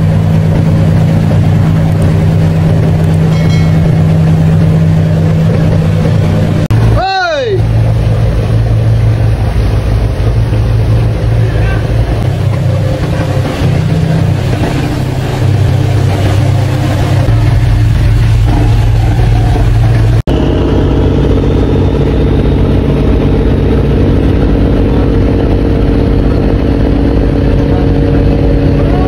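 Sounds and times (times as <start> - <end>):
boat diesel engine drone: 0.0 - 29.0.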